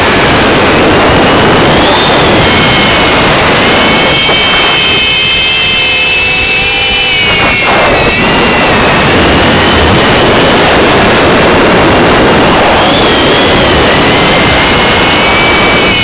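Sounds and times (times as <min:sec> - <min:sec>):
air rushing: 0:00.0 - 0:16.0
drone motors whining: 0:00.0 - 0:16.0.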